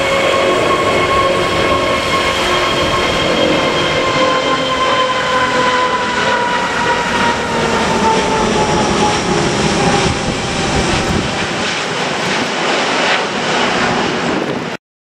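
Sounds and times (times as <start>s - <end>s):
jet engines rumbling and whining: 0.0s - 14.8s.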